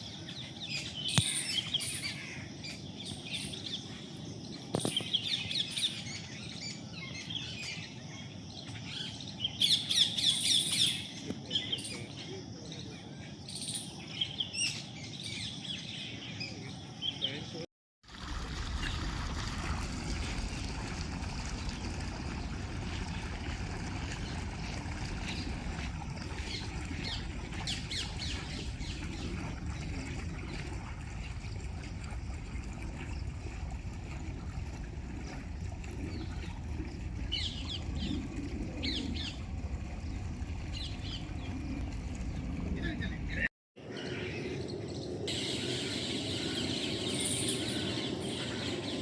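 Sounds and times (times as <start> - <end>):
low rumbling outdoor noise: 0.0 - 49.0.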